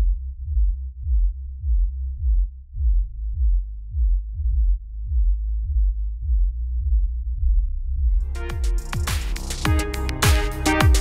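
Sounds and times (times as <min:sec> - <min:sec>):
electronic bass music: 0:00.0 - 0:11.0.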